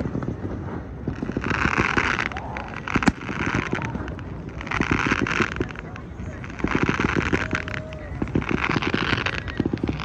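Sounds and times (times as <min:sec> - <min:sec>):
firework bang: 0:00.0 - 0:10.0
fireworks crackling and popping: 0:00.0 - 0:10.0
fireworks hissing: 0:00.0 - 0:10.0.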